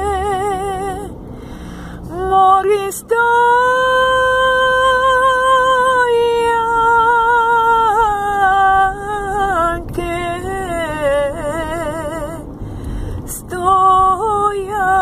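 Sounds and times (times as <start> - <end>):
woman singing unaccompanied: 0.0 - 1.1, 2.1 - 12.4, 13.3 - 15.0.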